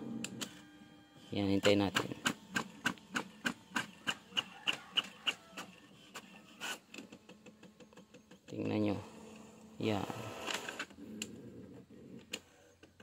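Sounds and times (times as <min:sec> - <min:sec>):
printer whirr: 0:00.0 - 0:11.2.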